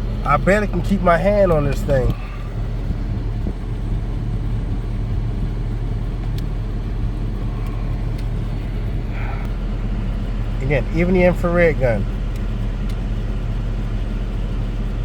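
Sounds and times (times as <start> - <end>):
air-conditioning blower rushing: 0.0 - 15.0
car engine idling: 0.0 - 15.0.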